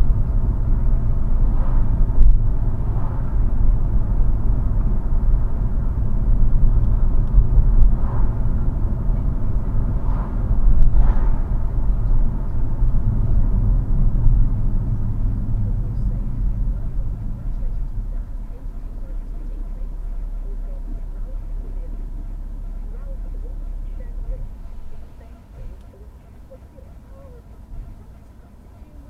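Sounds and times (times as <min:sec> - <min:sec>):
car engine and tyre noise: 0:00.0 - 0:29.0.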